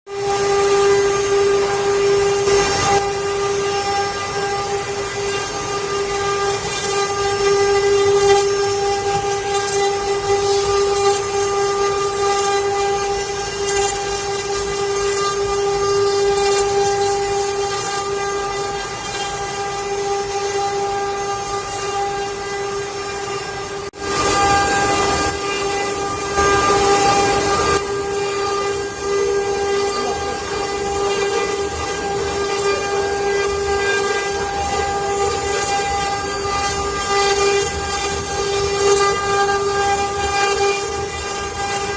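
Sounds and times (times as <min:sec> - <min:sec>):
router spindle whining: 0:00.1 - 0:41.9
wood cutting noise: 0:00.1 - 0:41.9.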